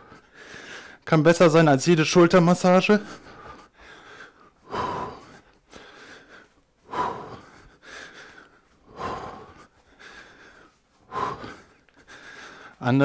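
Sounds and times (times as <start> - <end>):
man breathing hard: 0.0 - 1.1, 2.8 - 12.8.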